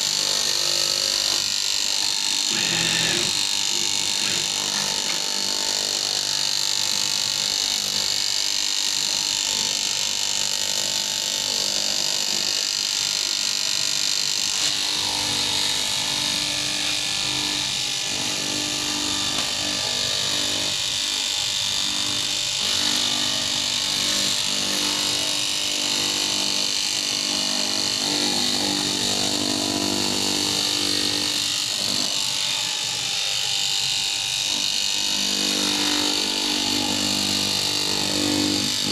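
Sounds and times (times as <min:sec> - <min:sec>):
fabric-cutting machine whirring: 0:00.0 - 0:38.9.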